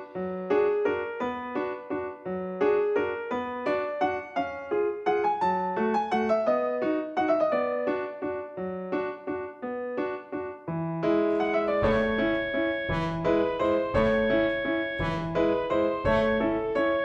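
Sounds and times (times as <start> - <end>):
light piano melody: 0.0 - 17.0.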